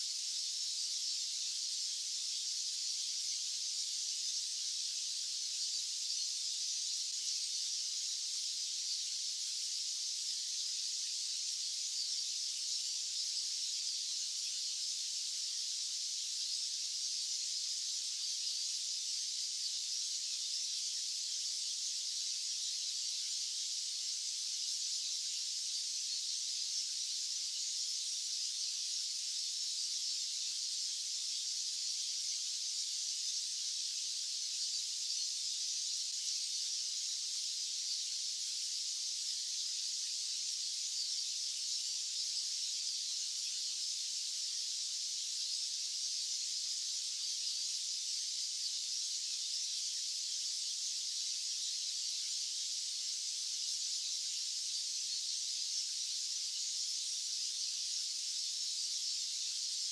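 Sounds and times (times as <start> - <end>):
high-pitched white noise hiss: 0.0 - 59.9.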